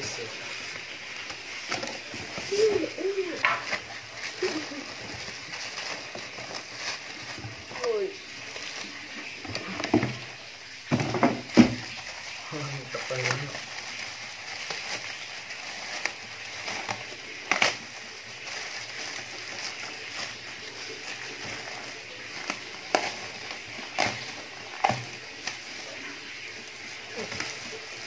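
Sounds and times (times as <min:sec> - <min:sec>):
plastic wrap crinkling: 0:00.0 - 0:28.0.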